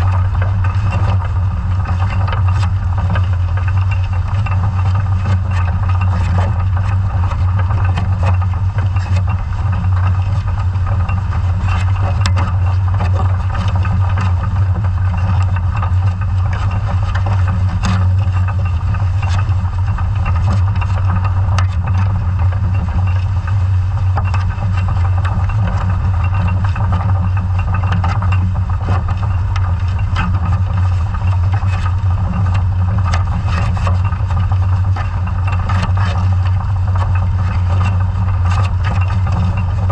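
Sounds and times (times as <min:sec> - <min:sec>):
low underwater hum: 0:00.0 - 0:39.9.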